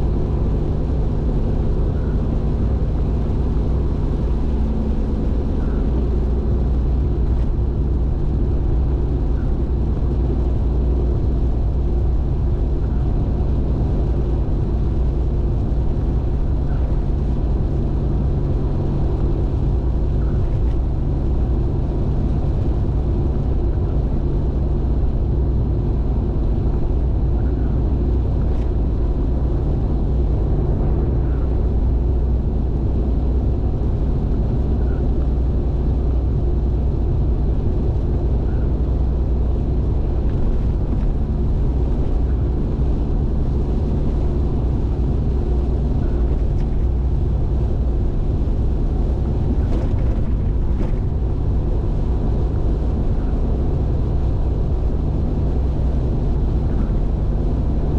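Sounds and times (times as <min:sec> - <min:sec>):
car driving at high speed: 0:00.0 - 0:57.9.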